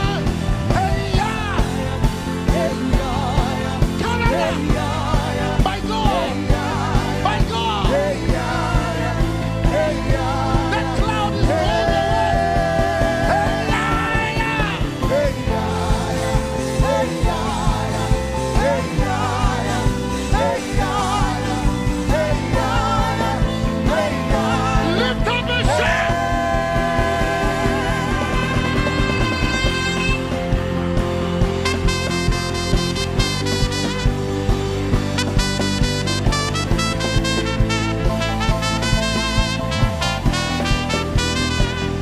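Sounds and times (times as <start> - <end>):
live band music: 0.0 - 42.0.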